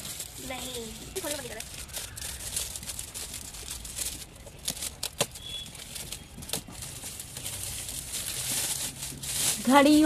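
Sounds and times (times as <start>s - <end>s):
foil wrapping crinkling: 0.0s - 10.0s.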